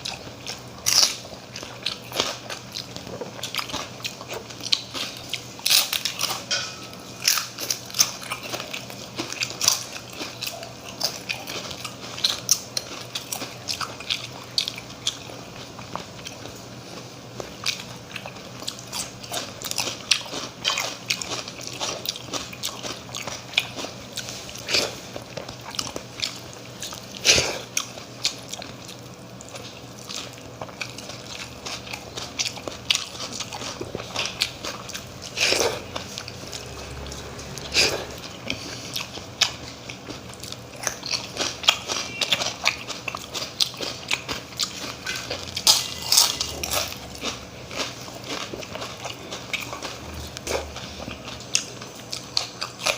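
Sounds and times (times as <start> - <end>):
wet chewing: 0.0 - 6.5, 7.2 - 52.9.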